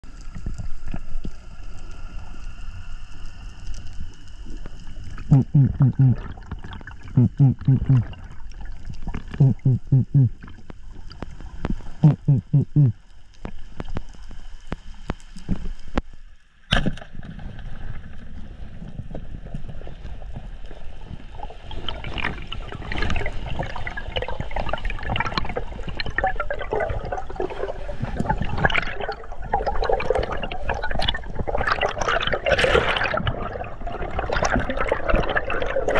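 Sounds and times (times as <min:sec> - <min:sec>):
underwater water rushing: 0:00.0 - 0:35.9.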